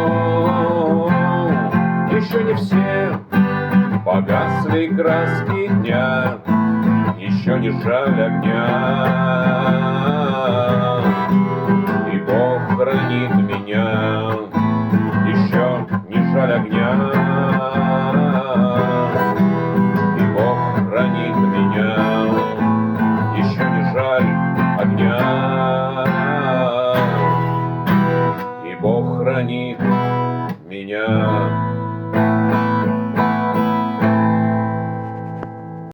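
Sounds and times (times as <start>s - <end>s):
person singing wordless notes: 0.0s - 32.4s
acoustic guitar strumming chords: 0.0s - 35.9s.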